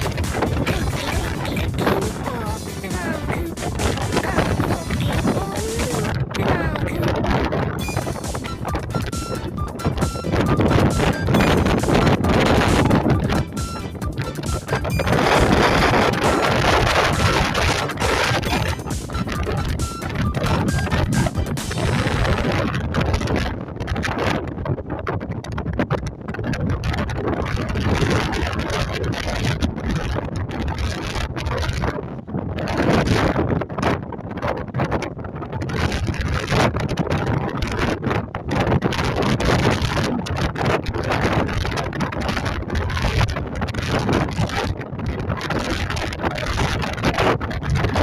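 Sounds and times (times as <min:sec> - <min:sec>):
strong wind buffeting microphone: 0:00.0 - 0:48.0.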